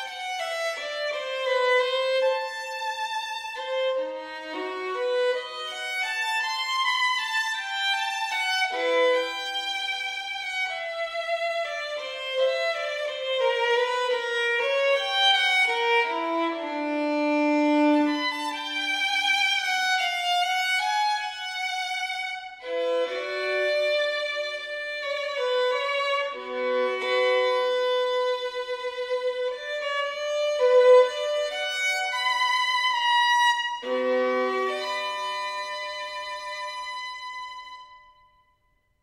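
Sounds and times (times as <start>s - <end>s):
violin melody with vibrato: 0.0s - 38.3s.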